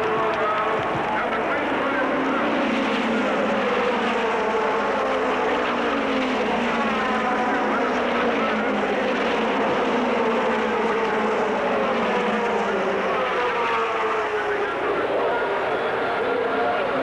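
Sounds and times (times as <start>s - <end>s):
race cars accelerating past: 0.0s - 17.0s.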